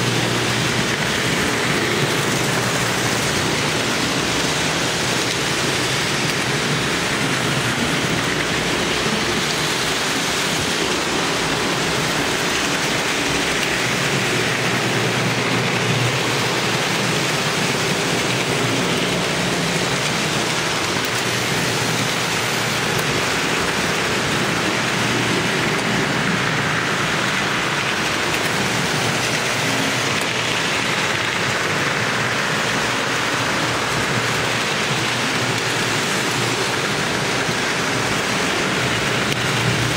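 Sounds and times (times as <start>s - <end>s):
model train rumble: 0.0s - 39.9s.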